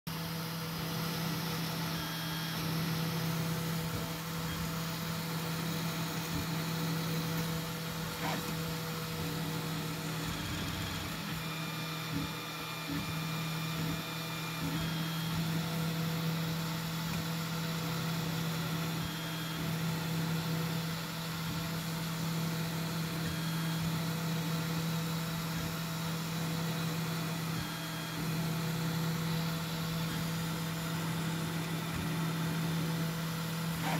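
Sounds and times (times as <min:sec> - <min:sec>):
motor and fan hum: 0:00.1 - 0:33.9
stepper motor whines: 0:00.1 - 0:33.9.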